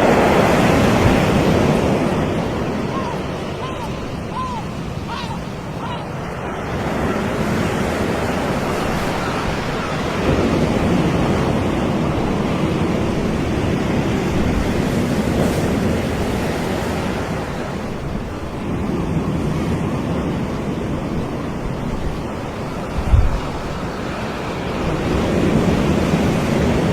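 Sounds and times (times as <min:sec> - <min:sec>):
waves breaking on a beach: 0:00.0 - 0:26.9.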